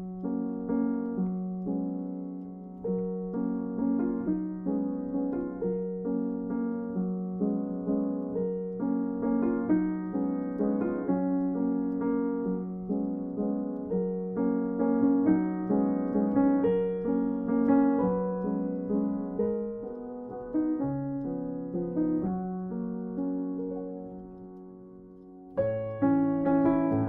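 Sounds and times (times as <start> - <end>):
gentle piano piece: 0.0 - 27.0.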